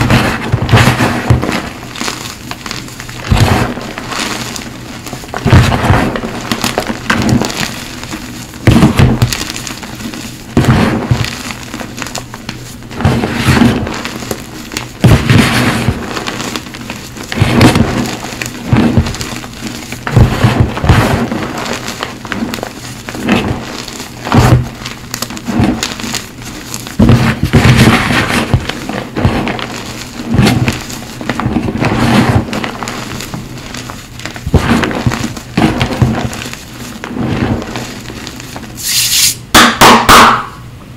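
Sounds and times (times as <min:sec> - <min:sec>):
chalk crunching in hand: 0:01.4 - 0:39.4.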